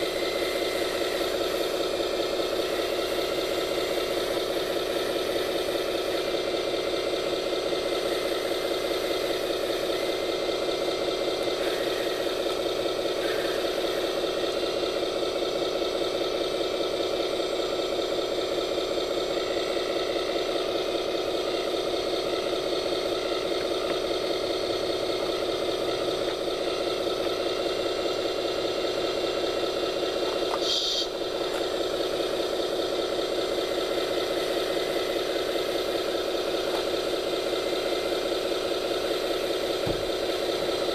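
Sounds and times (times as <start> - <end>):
toy machine engine idling: 0.0 - 40.9.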